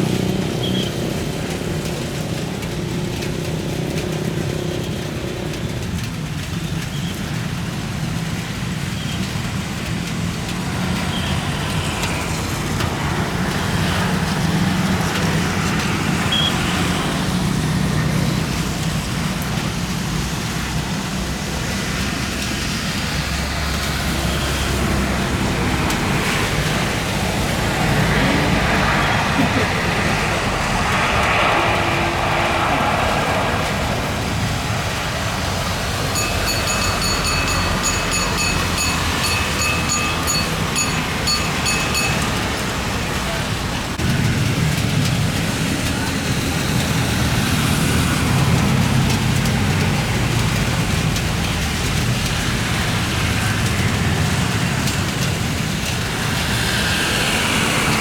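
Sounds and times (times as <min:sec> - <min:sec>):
low rumble of vehicle traffic: 0:00.0 - 0:58.0.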